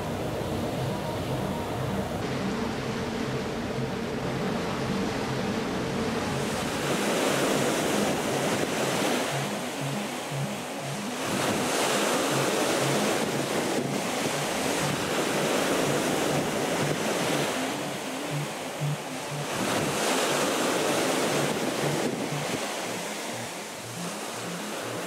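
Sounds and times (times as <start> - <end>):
water splashing along ship hull: 0.0 - 25.0
wind buffeting microphone: 1.8 - 24.0.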